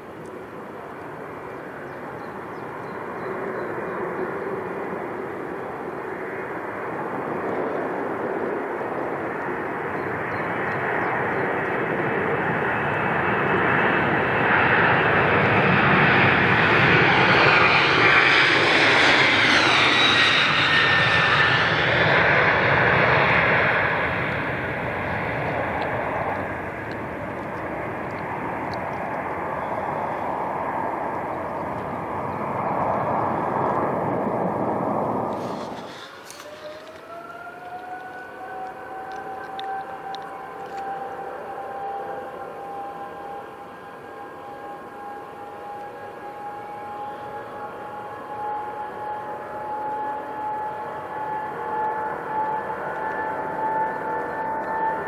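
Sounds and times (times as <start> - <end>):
jet airliner engines: 0.0 - 55.0.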